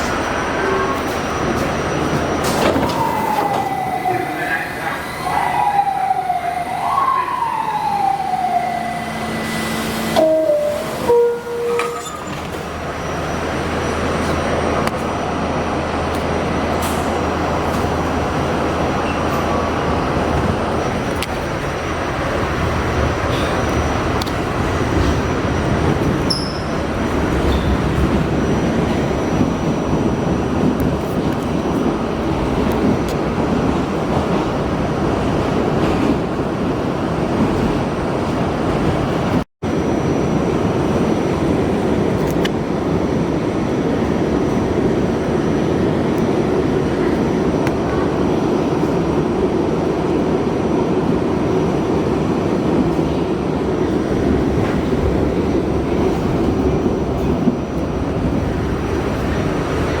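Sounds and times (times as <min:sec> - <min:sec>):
subway car wheels rumbling: 0:00.0 - 1:00.0.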